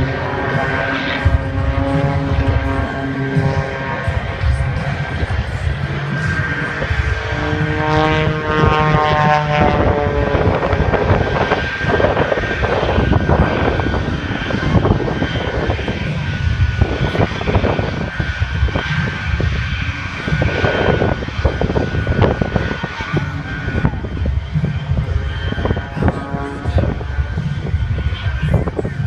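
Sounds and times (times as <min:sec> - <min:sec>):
propeller airplane flying past: 0:00.0 - 0:29.0.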